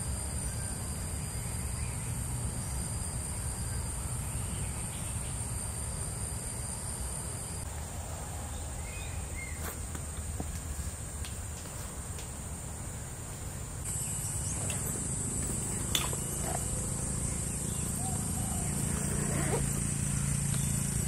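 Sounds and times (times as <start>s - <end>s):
forest insects droning: 0.0s - 21.0s.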